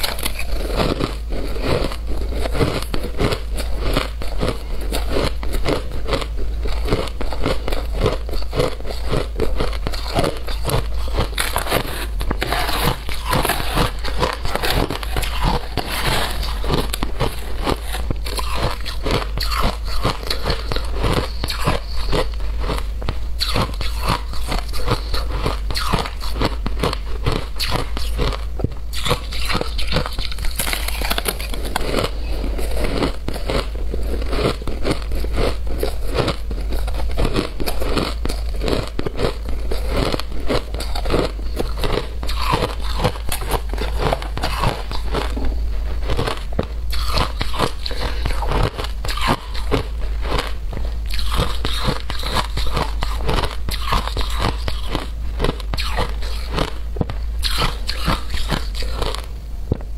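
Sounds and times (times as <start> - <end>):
ice crunching while chewed: 0.0 - 59.3.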